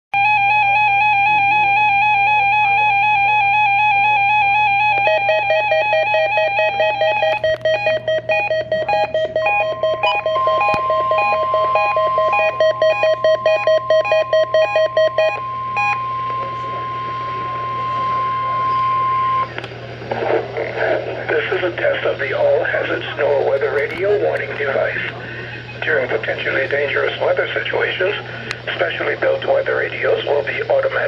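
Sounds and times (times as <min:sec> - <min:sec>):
steady high tone: 0:00.2 - 0:31.0.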